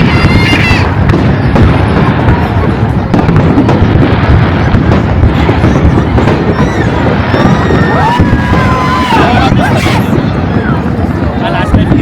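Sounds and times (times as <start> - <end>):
fireworks deep booms: 0.0 - 12.0
fireworks sharp cracks: 0.0 - 12.0.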